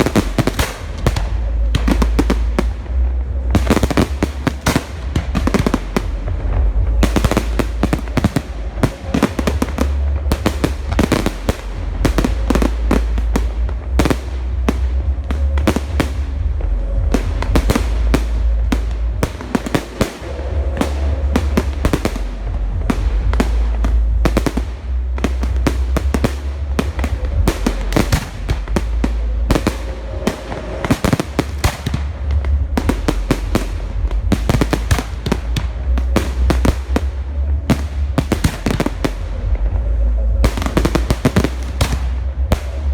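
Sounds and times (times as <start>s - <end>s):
deep low rumble: 0.0s - 42.9s
fireworks bursting: 0.0s - 42.9s.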